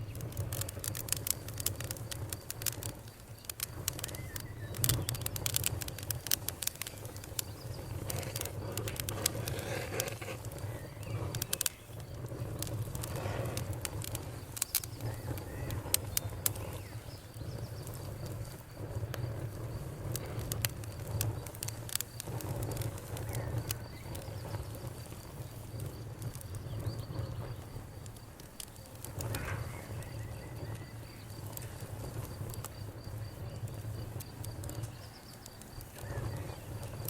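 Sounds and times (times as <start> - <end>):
bonfire crackling and popping: 0.0 - 37.0
cricket trilling: 0.0 - 37.0.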